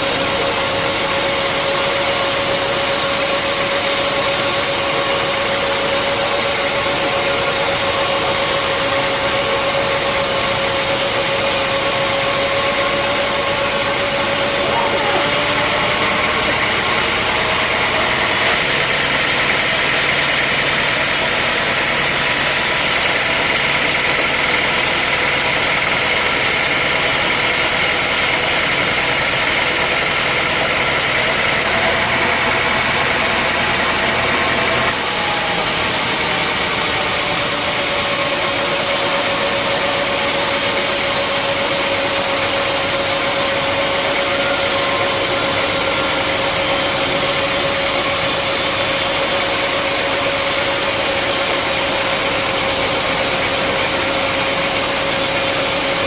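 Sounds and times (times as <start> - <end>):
sawmill engine drone: 0.0 - 56.0.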